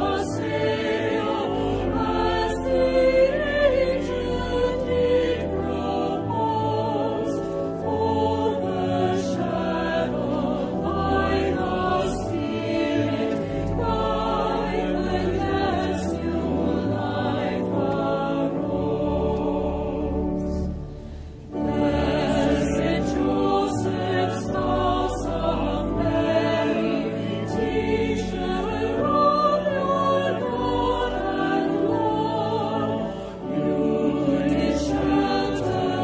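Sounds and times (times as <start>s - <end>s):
choir singing a hymn: 0.0s - 36.0s.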